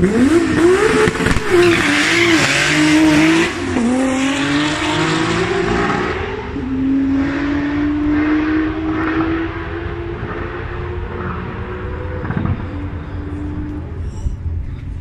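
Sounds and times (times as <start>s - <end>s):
car engine accelerating at full throttle: 0.0s - 14.4s.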